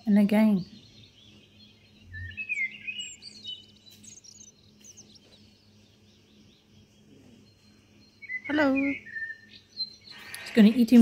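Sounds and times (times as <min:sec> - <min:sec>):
faint low hum: 0:00.0 - 0:11.0
small birds chirping: 0:00.0 - 0:11.0.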